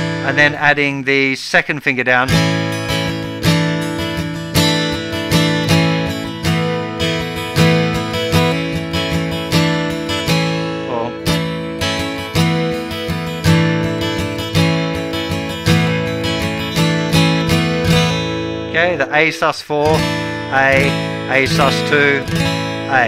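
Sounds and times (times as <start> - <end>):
guitar strumming: 0.0 - 1.3, 1.9 - 23.0.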